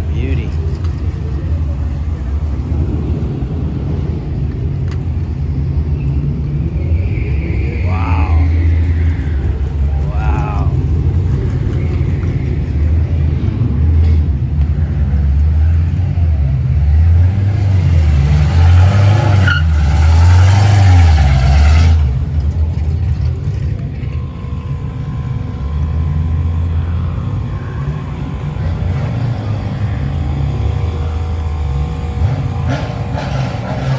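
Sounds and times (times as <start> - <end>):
car engines revving: 0.0 - 33.9.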